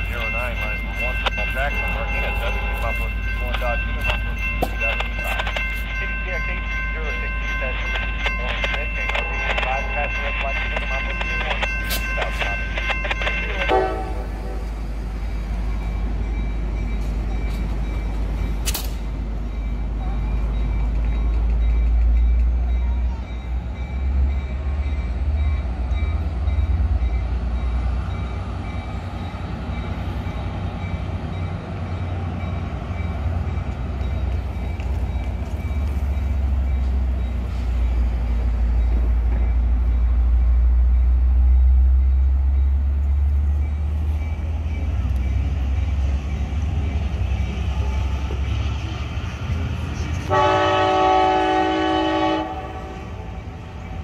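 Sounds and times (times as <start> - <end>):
train low rumble: 0.0 - 54.0.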